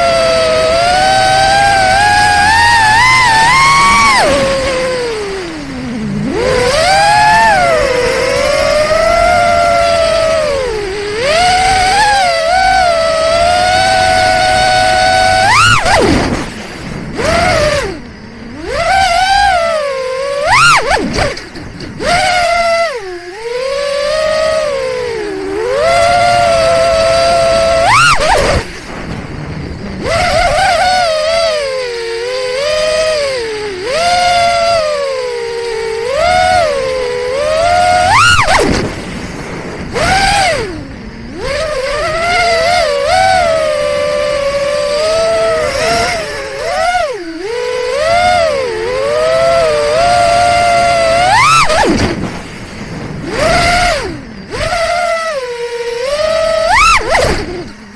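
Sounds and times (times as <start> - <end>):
quadcopter motors whining: 0.0 - 57.9.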